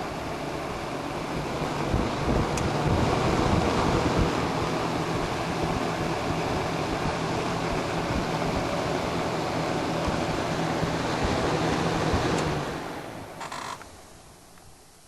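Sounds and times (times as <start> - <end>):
faint motor hum: 0.0 - 15.0
fan air rushing: 0.0 - 15.0.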